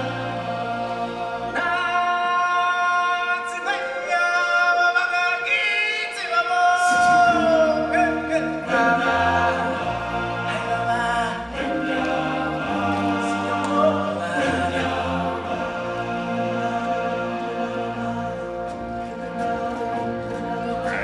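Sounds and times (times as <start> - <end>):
choir singing long notes: 0.0 - 5.6, 6.4 - 21.0.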